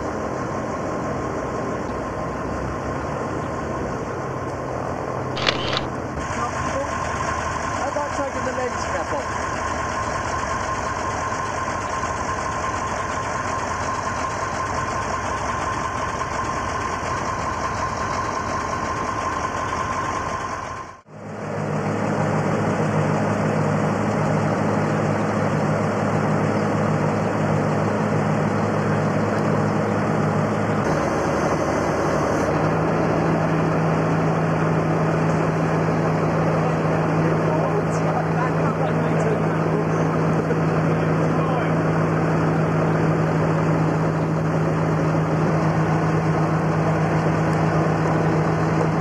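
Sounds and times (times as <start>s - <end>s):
diesel lorry engines idling: 0.0s - 49.0s.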